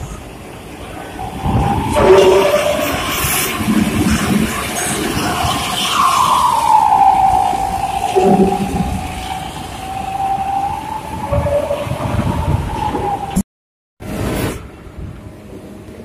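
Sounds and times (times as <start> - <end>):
heavy vehicles rumbling: 0.0 - 13.4
long falling whine: 0.0 - 13.4
sea noise: 0.0 - 13.4.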